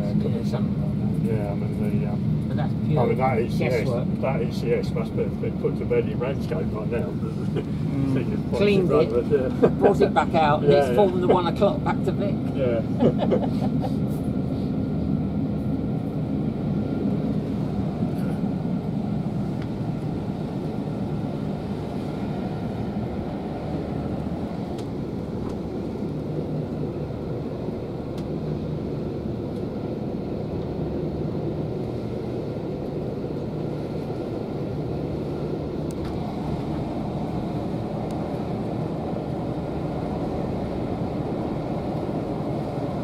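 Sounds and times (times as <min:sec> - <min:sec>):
train carriage rumbling: 0:00.0 - 0:43.0.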